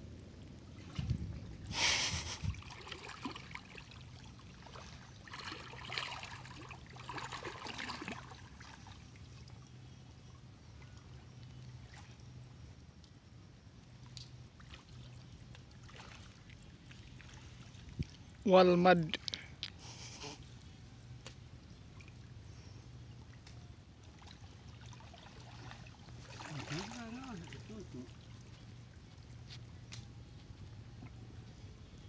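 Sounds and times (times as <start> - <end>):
faint low hum: 0.0 - 32.0
water sloshing and splashing: 0.3 - 12.5, 13.9 - 19.4, 21.8 - 31.4.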